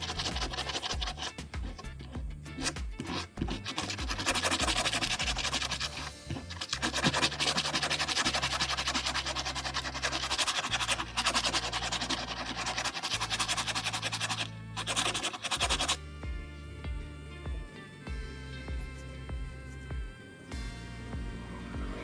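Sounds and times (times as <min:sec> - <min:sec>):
rapid scratching on hard surface: 0:00.0 - 0:16.0, 0:17.3 - 0:20.6
background music: 0:00.0 - 0:22.0.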